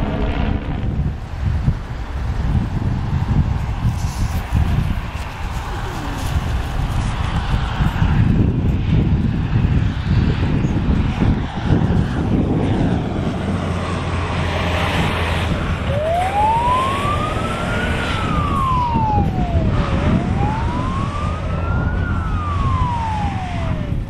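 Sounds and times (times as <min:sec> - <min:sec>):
fire engine siren wailing: 0:00.0 - 0:01.2, 0:03.3 - 0:09.0, 0:10.4 - 0:24.0
propeller aircraft engine drone: 0:00.0 - 0:24.0.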